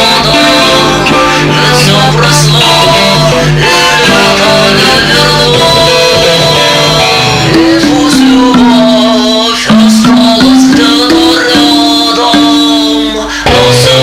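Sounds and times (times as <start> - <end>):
instrumental melody: 0.0 - 14.0.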